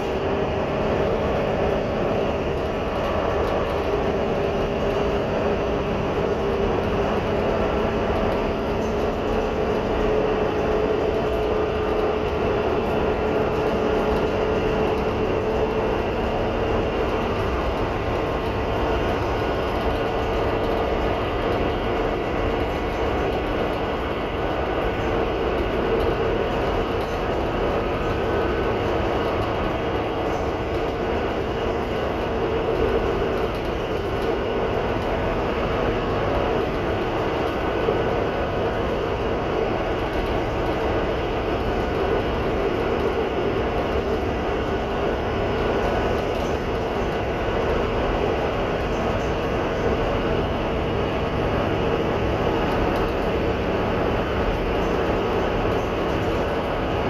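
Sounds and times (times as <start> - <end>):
bus diesel engine drone: 0.0 - 57.0
steady transmission whine: 0.0 - 57.0.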